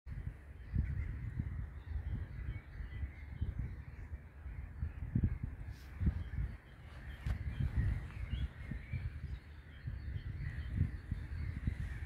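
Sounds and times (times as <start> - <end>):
distant bird calls: 0.1 - 12.0
wind buffeting microphone: 0.1 - 12.0.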